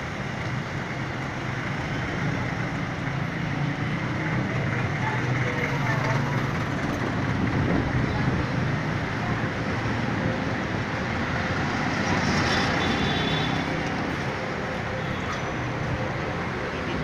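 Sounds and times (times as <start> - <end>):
bus engine hum: 0.0 - 17.0
street traffic noise: 0.0 - 17.0.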